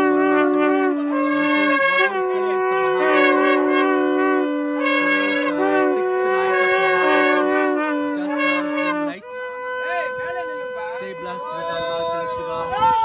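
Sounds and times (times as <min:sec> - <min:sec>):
wind instrument slow melody: 0:00.0 - 0:13.0.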